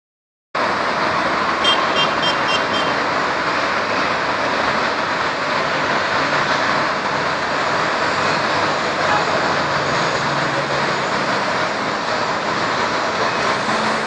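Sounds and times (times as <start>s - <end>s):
road traffic: 0.6s - 14.0s.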